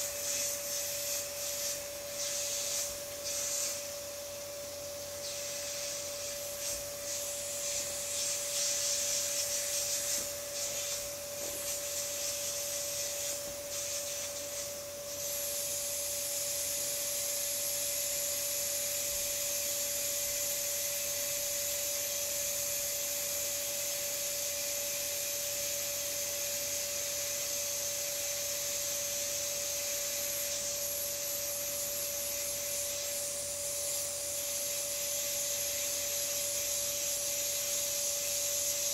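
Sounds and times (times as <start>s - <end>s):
air hissing from pool float: 0.0s - 4.4s, 5.0s - 38.9s.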